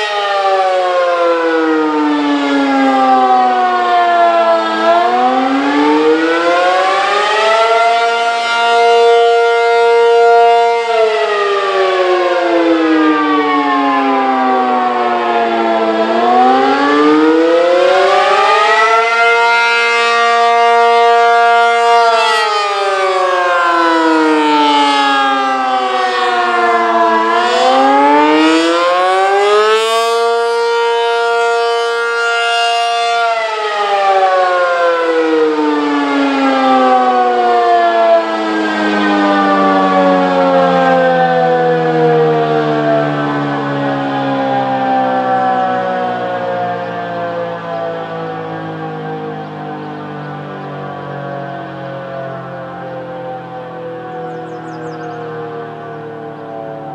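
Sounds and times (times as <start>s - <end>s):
warning siren wailing: 0.0s - 56.9s.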